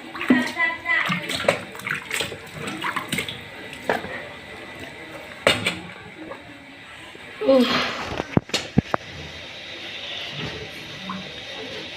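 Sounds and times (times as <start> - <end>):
running water splashing: 0.0 - 11.9.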